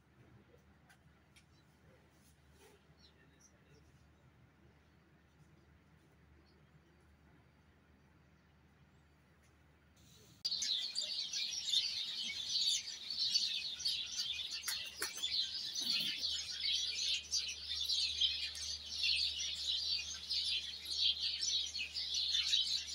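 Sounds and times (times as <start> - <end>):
small birds chirping: 0.4 - 22.9.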